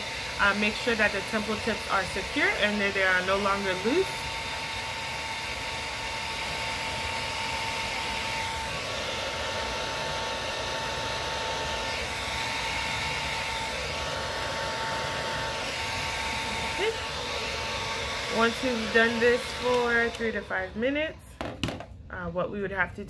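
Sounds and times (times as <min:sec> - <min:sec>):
hair dryer running: 0:00.0 - 0:22.9.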